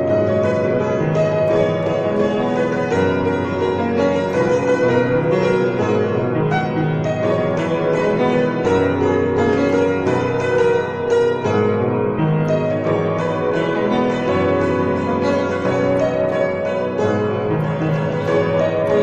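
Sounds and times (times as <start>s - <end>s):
piano playing: 0.0s - 19.0s.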